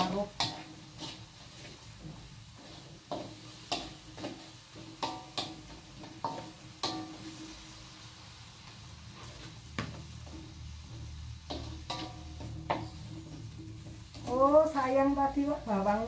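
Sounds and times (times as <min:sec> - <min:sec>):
faint sizzle: 0:00.0 - 0:16.0
metal spatula scraping wok: 0:00.0 - 0:16.0.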